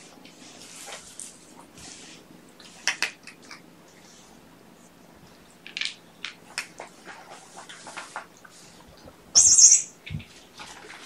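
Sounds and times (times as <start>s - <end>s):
soft rustles and light clicks: 0.0s - 9.2s, 10.0s - 11.0s.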